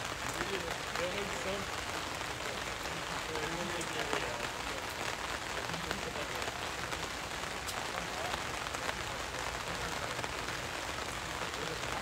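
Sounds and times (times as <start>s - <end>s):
faint voices: 0.0s - 12.0s
light rain pattering: 0.0s - 12.0s.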